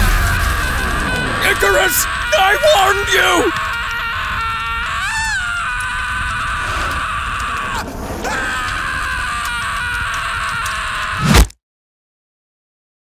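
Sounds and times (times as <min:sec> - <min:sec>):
man screaming: 0:00.0 - 0:11.3.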